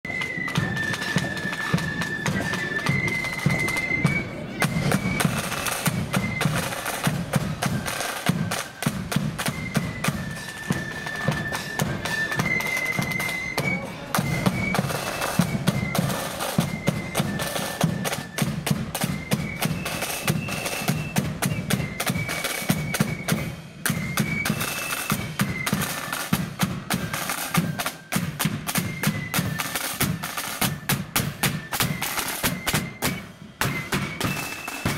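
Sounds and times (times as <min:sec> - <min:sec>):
flutes playing melody: 0:00.0 - 0:34.9
rapid snare drumming: 0:04.6 - 0:34.9.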